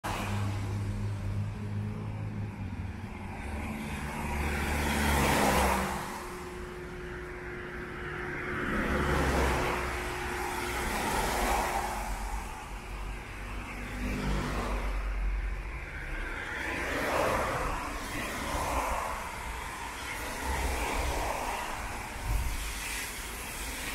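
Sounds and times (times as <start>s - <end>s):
tyres hissing on wet road: 0.1s - 23.9s.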